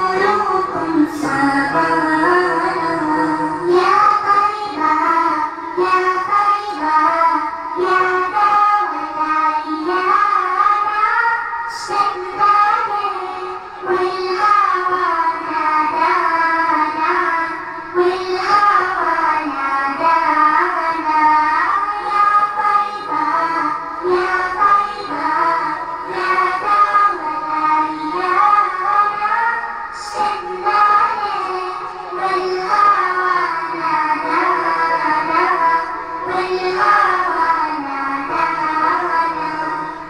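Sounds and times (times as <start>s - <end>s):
girls singing together: 0.0s - 40.0s.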